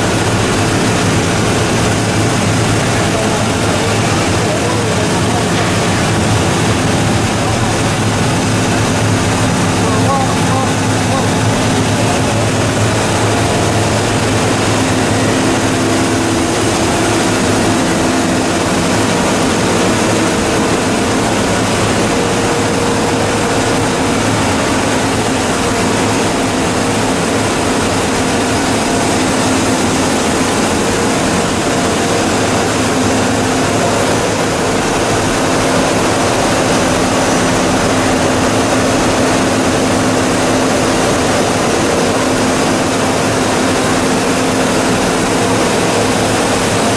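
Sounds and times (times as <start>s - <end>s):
extruder machine drone: 0.0s - 46.9s.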